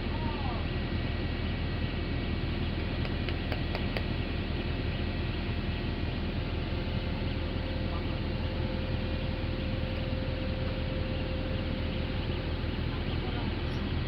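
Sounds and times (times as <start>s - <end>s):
engine drone: 0.0s - 14.0s
faint steady whine: 0.0s - 14.0s.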